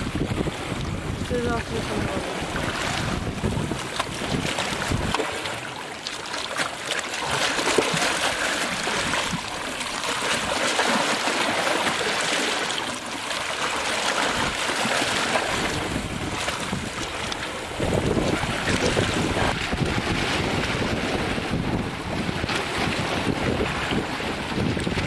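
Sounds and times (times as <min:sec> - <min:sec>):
seawater washing over rocks: 0:00.0 - 0:25.0.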